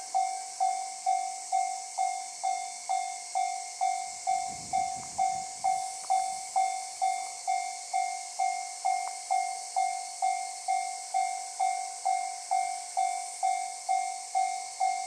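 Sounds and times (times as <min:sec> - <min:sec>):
railroad crossing bell ringing: 0:00.0 - 0:15.0.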